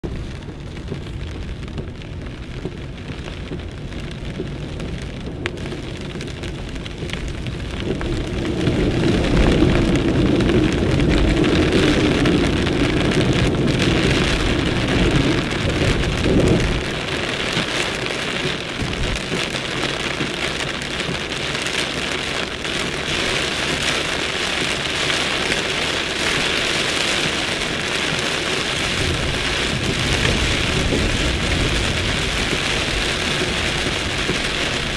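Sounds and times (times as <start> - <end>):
heavy rain pouring: 0.0 - 34.9
low rumble: 0.0 - 34.9.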